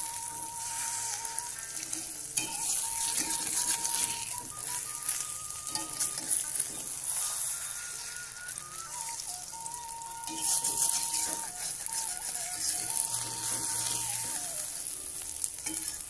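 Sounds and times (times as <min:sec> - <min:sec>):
spatula scraping pan: 0:00.0 - 0:08.6, 0:10.2 - 0:16.0
egg frying in oil sizzling: 0:00.0 - 0:16.0.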